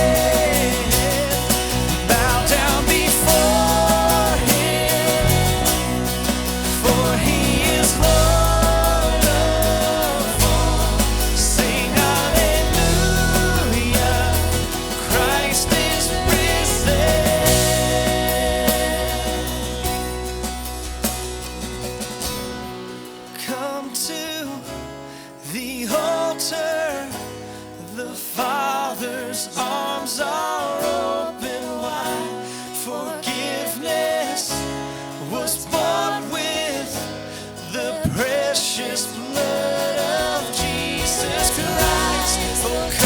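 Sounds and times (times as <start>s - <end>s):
worship band playing: 0.0s - 23.7s, 29.6s - 43.0s
guitar: 0.0s - 43.0s.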